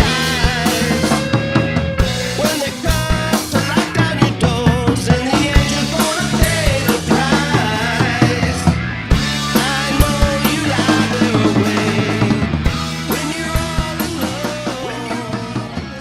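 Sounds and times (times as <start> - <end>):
person singing: 0.0 - 8.8, 9.4 - 16.0
drum kit: 0.0 - 16.0
rock music: 0.0 - 16.0.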